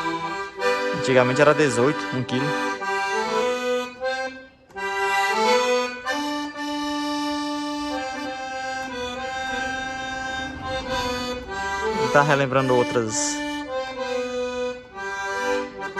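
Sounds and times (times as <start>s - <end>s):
accordion melody: 0.0s - 15.9s.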